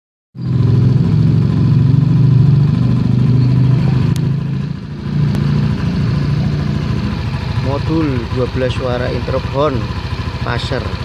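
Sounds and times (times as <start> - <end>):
vehicle engine idling: 0.4 - 11.0.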